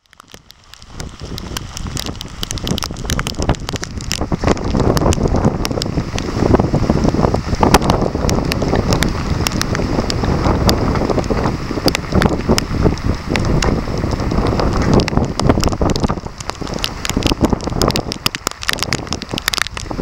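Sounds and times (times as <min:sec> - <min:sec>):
heavy rain: 0:00.0 - 0:20.0
raindrops tapping close by: 0:00.0 - 0:20.0
wind buffeting microphone: 0:00.0 - 0:20.0.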